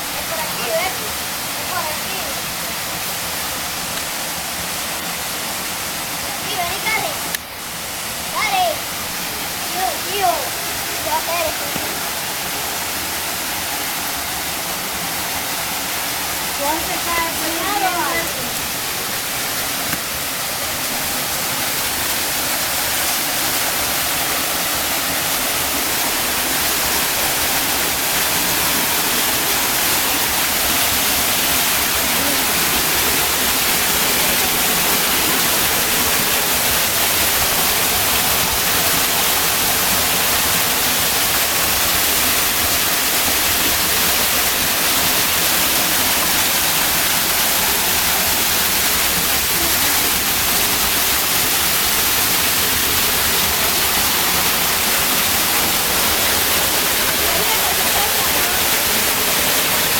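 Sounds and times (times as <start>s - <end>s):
waterfall splashing into pool: 0.0s - 59.9s.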